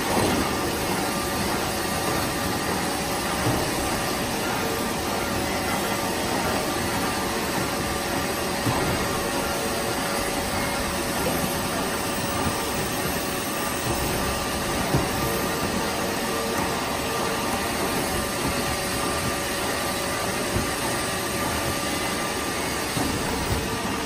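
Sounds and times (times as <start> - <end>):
machine whir of motors and rollers: 0.0 - 24.0.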